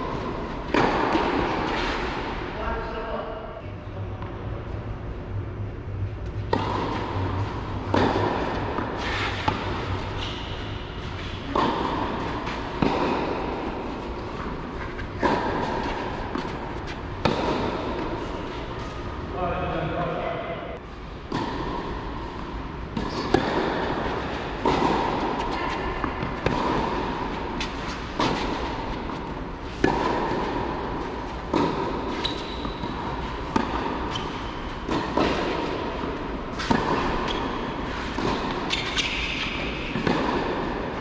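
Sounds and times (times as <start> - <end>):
tennis racket striking ball: 0.0 - 2.4, 6.4 - 18.6, 21.3 - 41.0.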